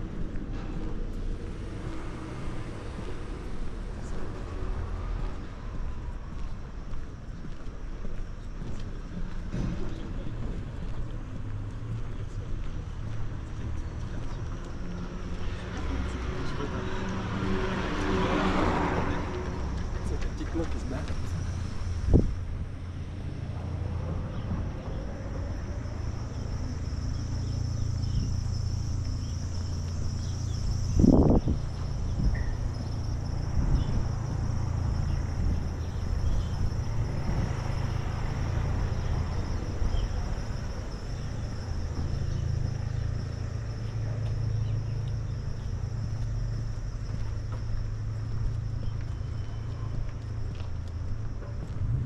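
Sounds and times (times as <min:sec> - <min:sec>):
traffic rumble: 0:00.0 - 0:52.0.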